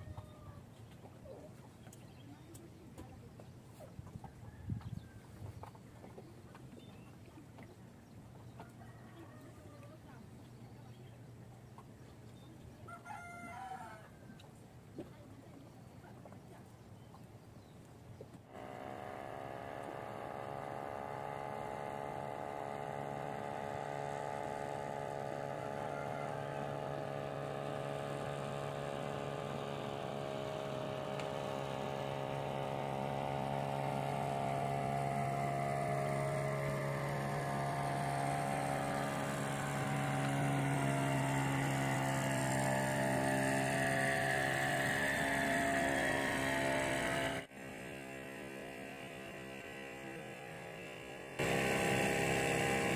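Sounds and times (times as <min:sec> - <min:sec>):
motorboat engine humming: 0:00.0 - 0:52.9.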